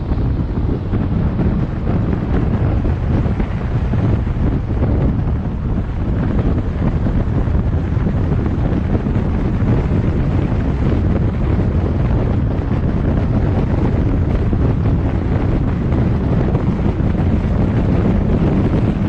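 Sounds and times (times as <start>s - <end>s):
car road and engine noise: 0.0s - 19.0s
wind noise on microphone: 0.0s - 19.0s.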